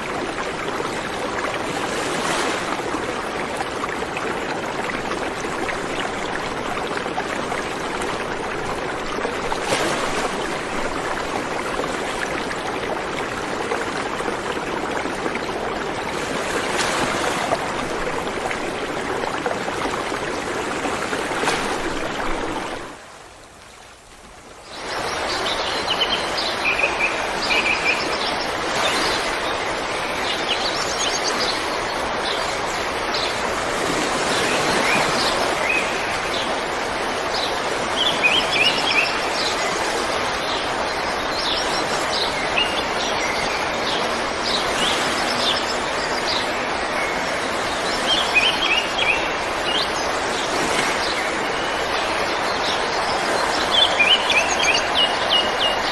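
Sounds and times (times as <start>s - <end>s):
river water running: 0.0s - 55.9s.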